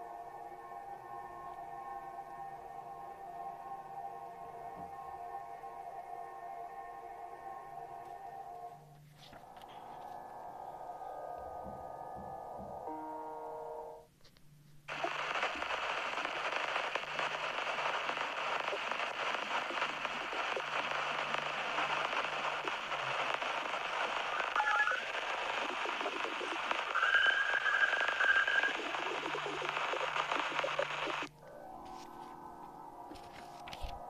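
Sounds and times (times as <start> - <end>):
crackling static hiss: 0.0 - 11.4, 12.7 - 34.0.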